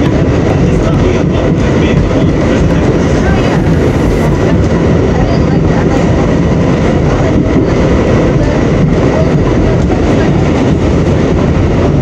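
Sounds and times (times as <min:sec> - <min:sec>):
subway train wheels rumbling: 0:00.0 - 0:12.0.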